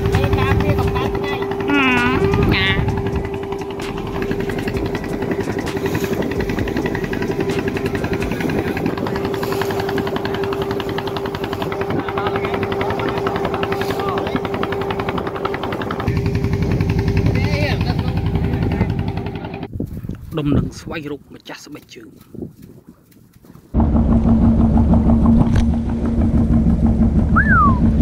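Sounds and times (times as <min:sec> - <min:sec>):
boat engine chugging: 0:00.0 - 0:19.7, 0:23.8 - 0:28.0.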